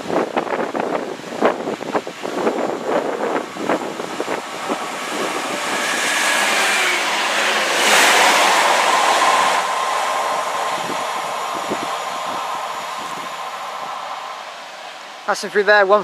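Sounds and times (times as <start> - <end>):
wind buffeting microphone: 0.0 - 15.4
train passing at speed: 0.0 - 16.0.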